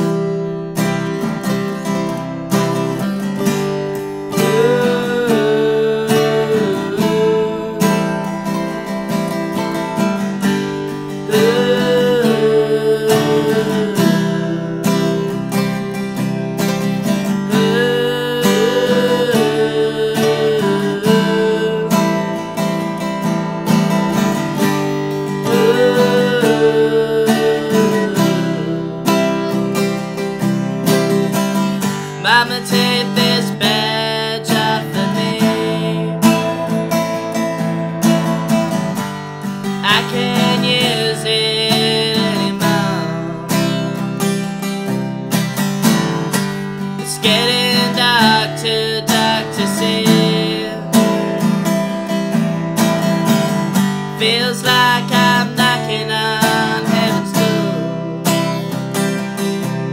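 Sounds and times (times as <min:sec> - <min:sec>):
acoustic guitar strumming: 0:00.0 - 0:59.9
man singing: 0:03.4 - 0:37.8, 0:39.6 - 0:44.8, 0:46.8 - 0:59.9.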